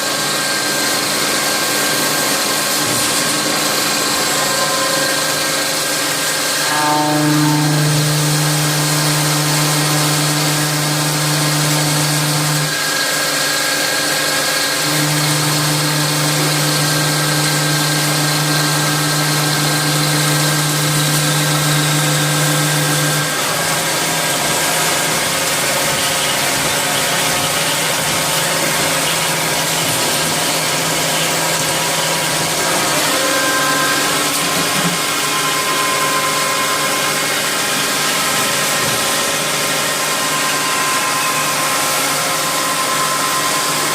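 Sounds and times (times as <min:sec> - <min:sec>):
lathe machine hum: 0:00.0 - 0:43.9.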